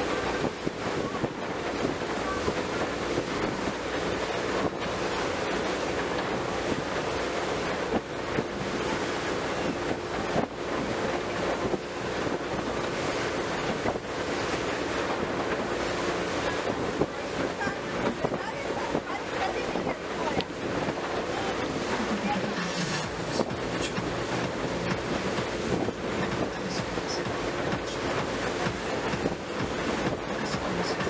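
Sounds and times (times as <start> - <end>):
boat engine hum: 0.0 - 31.0
rushing wake water: 0.0 - 31.0
wind buffeting microphone: 0.0 - 31.0.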